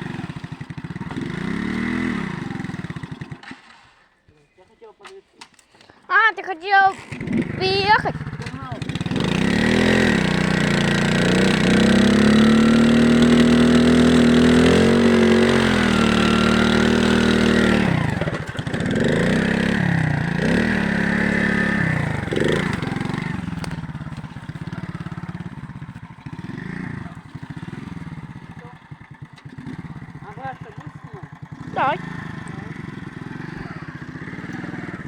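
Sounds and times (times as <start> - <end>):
moped engine revving: 0.0 - 3.9, 6.6 - 35.0.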